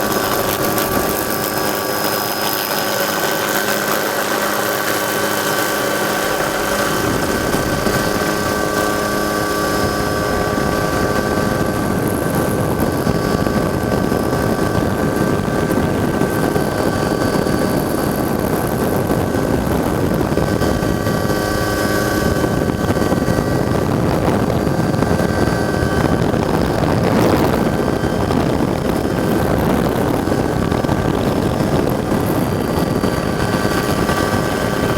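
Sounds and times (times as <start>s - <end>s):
helicopter rotor and engine: 0.0s - 34.9s
high-pitched whine: 0.0s - 34.9s.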